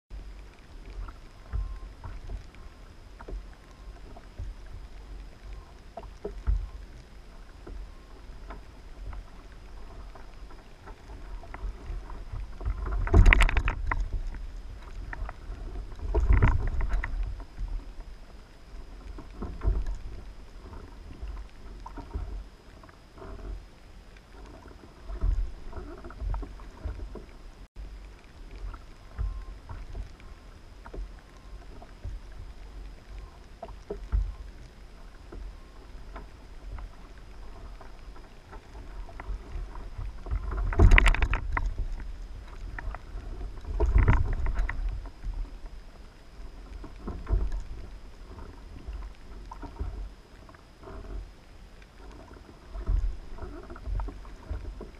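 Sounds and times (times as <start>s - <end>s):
noise surges: 0.1s - 54.9s
water lapping against kayak: 0.1s - 54.9s.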